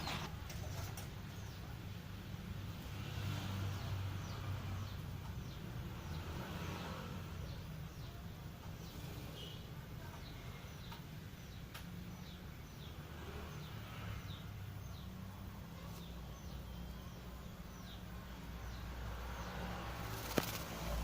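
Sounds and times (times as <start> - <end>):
small bird chirping: 0.0 - 2.0, 3.4 - 21.0.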